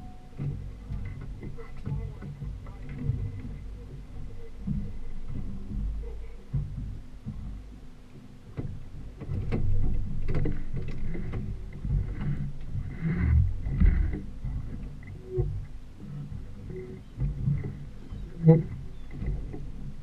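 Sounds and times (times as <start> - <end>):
outboard boat engine rumble: 0.0 - 20.0.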